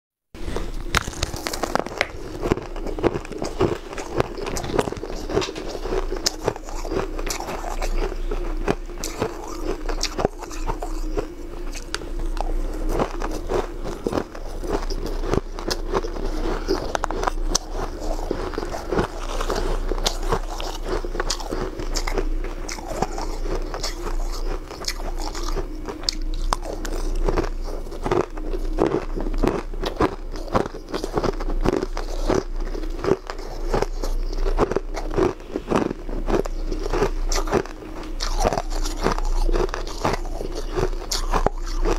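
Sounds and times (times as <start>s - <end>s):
person crunching shaved ice: 0.4s - 41.9s.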